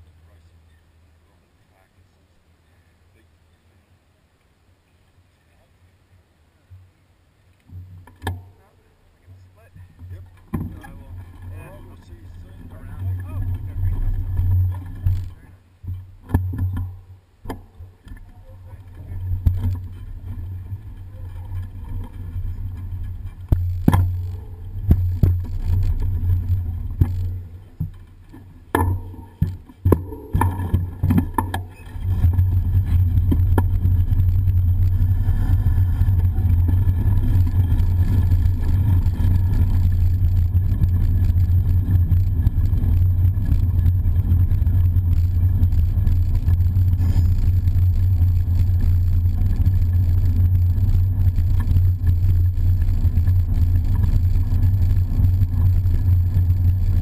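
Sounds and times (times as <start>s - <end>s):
bicycle knocks and rattles: 7.6s - 8.6s, 9.3s - 57.0s
bike rolling on brick paving: 9.3s - 57.0s.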